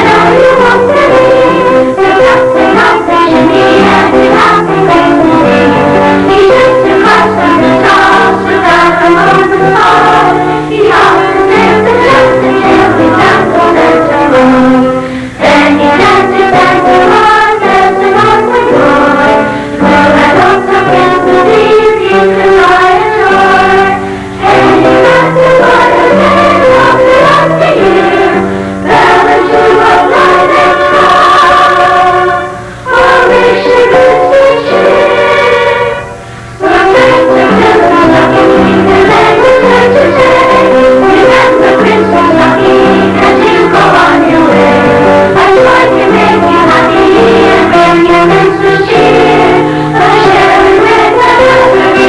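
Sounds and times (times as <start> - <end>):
choir singing: 0.0 - 52.0
instrumental accompaniment: 0.0 - 52.0.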